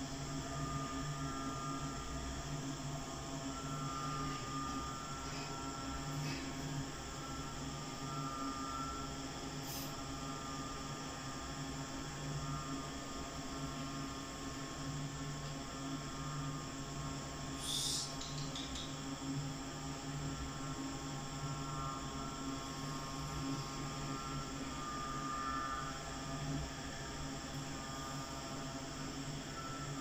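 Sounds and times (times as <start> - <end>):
faint steady tones: 0.0 - 18.3, 18.9 - 30.0
steady low hum: 0.0 - 30.0.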